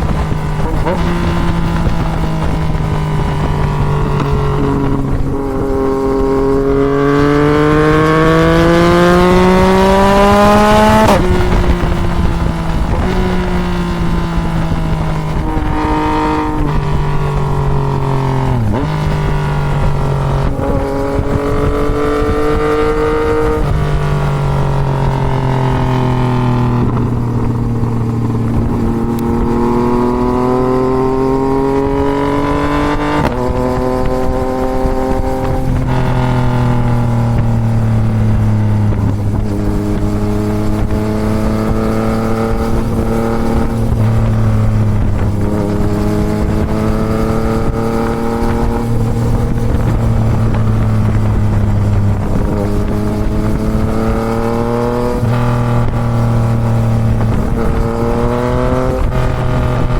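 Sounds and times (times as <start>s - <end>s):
motorcycle engine revving and shifting: 0.0s - 59.9s
wind rush on microphone: 0.0s - 59.9s.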